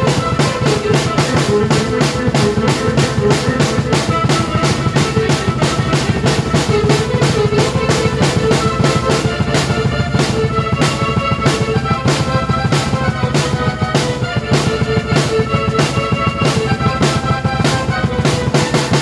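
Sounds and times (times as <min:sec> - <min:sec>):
drum kit beat: 0:00.0 - 0:19.0
sustained keyboard notes: 0:00.0 - 0:19.0.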